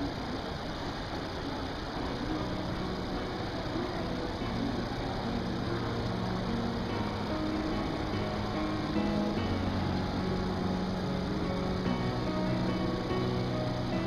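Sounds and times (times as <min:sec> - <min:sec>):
station concourse hum and hiss: 0:00.0 - 0:14.0.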